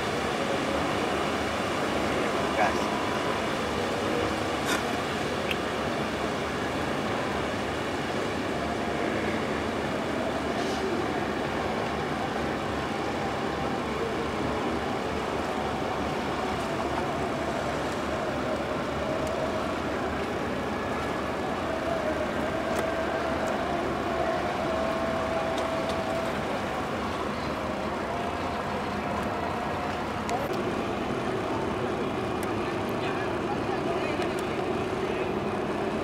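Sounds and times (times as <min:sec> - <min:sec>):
ship engines rumbling: 0:00.0 - 0:36.0.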